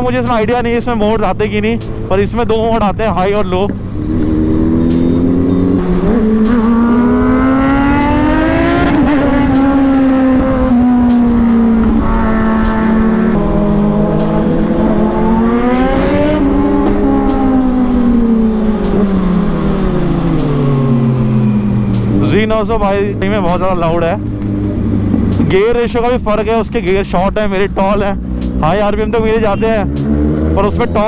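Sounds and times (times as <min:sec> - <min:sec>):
sport bike engines revving: 0:00.0 - 0:31.0.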